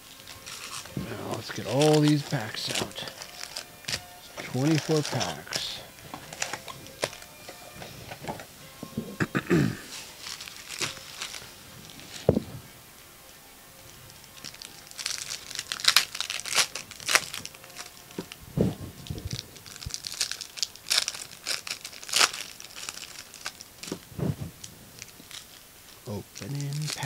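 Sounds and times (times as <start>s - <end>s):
card wrappers crinkling and tearing: 0.0s - 12.8s, 13.8s - 27.0s.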